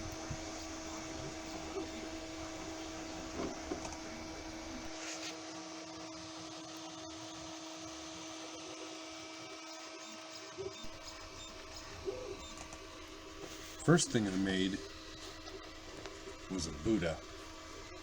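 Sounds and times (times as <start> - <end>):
printer fan whirring: 0.0 - 18.0.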